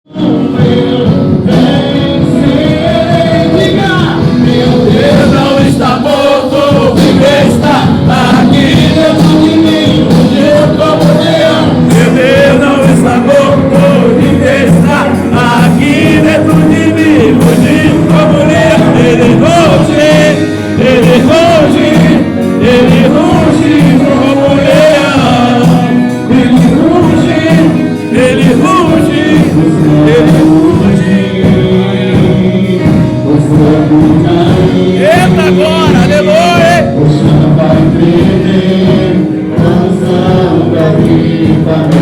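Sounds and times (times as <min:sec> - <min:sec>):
band playing gospel song: 0:00.0 - 0:42.0
person singing: 0:00.0 - 0:42.0
drums beating: 0:00.1 - 0:42.0.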